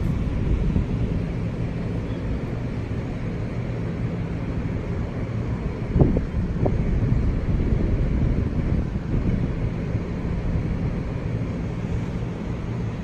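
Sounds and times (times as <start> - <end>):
faint hum: 0.0 - 13.0
train wheels rumbling on rails: 0.0 - 13.0.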